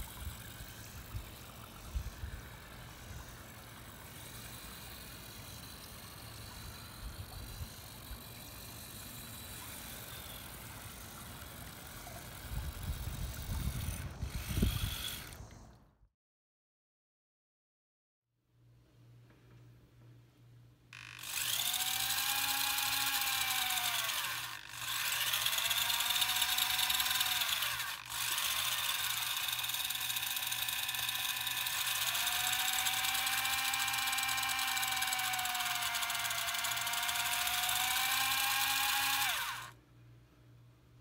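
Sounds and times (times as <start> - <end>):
small gear motors whining: 0.0 - 15.8, 21.0 - 39.8.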